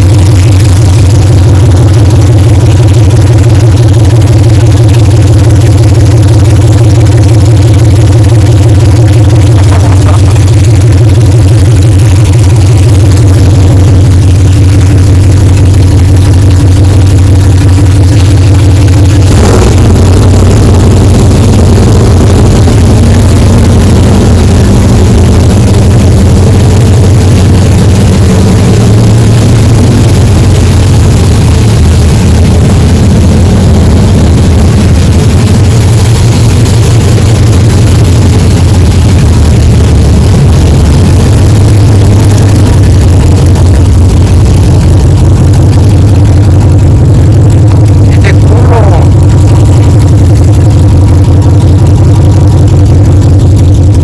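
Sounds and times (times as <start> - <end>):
pickup engine idling loudly: 0.0 - 54.0.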